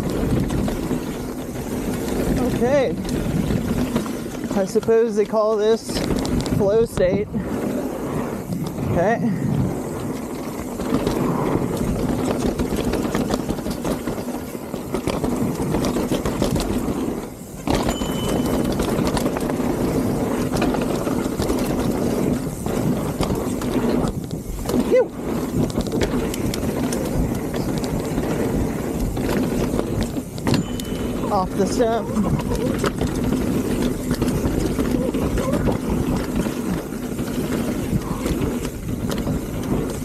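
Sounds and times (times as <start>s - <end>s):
bike tyres rolling on dirt: 0.0s - 40.0s.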